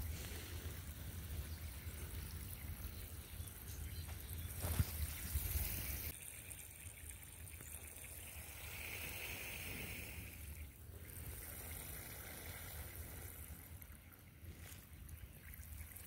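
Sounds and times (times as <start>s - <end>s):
low steady rumble: 0.0s - 16.0s
water trickling into soil: 0.0s - 16.0s.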